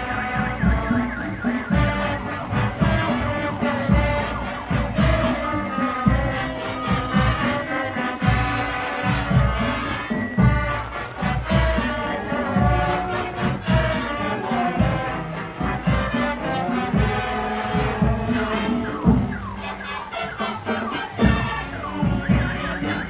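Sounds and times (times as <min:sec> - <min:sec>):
brass melody: 0:00.0 - 0:23.0
heavy drum beats: 0:00.0 - 0:23.0.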